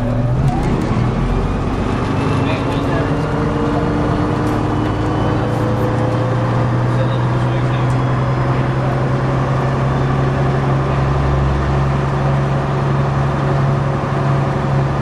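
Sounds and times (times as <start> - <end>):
diesel bus engine droning: 0.0 - 15.0.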